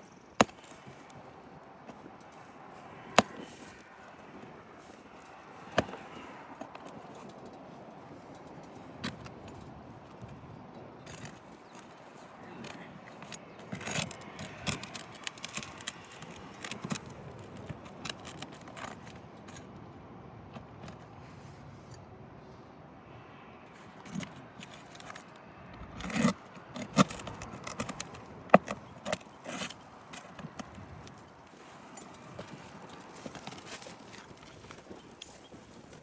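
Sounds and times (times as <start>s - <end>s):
scraping and clicking on shingles: 0.0s - 19.8s, 20.6s - 21.9s, 23.7s - 36.0s.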